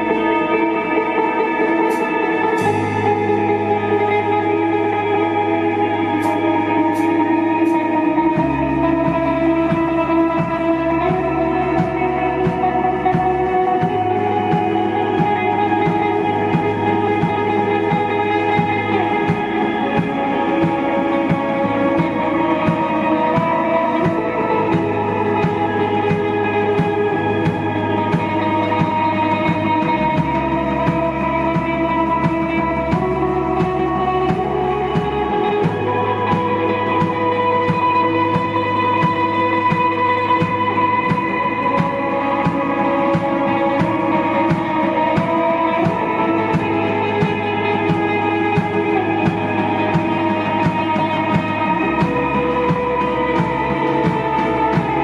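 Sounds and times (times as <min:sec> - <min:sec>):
bass line: 0:00.0 - 0:55.0
steady drum beat: 0:00.0 - 0:55.0
sustained guitar notes: 0:00.0 - 0:55.0.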